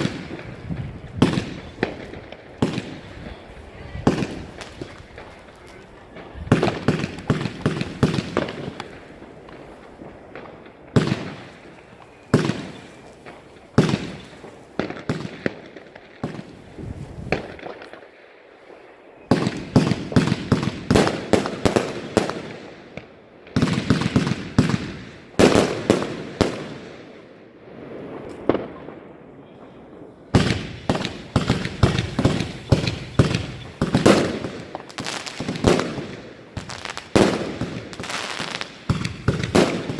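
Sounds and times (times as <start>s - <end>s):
fireworks banging in volleys: 0.0s - 39.9s.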